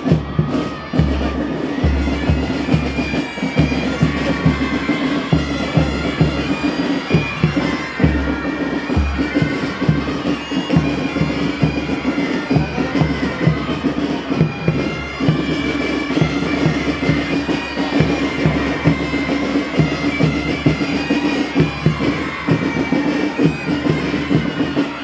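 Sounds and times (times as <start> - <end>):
marching drums beating: 0.0 - 25.0
bagpipes playing melody: 0.1 - 25.0.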